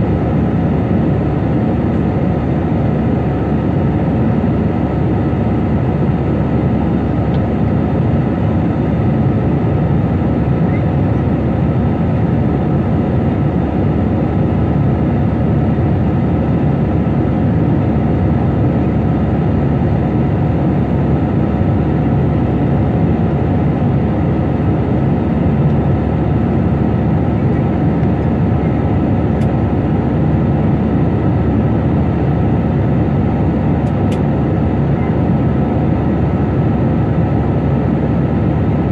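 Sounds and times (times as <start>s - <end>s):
jet airliner cabin noise: 0.0s - 38.9s.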